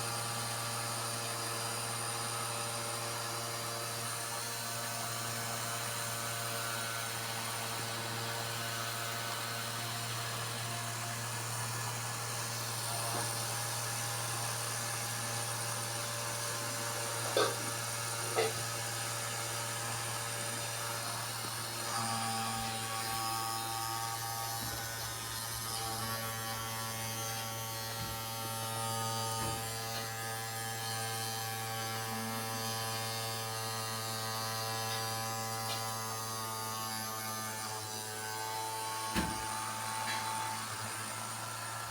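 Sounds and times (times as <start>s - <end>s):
small fan motor whine: 0.0s - 41.9s.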